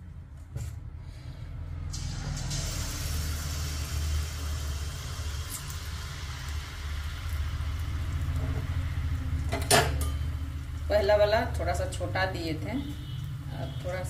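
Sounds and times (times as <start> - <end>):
low steady hum: 1.9 - 13.9
batter sizzling in hot oil: 1.9 - 14.0.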